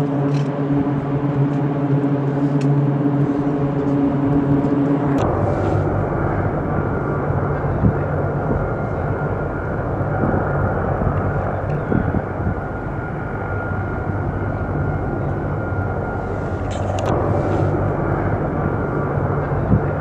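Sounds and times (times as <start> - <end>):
turboprop engines idling: 0.0 - 20.0.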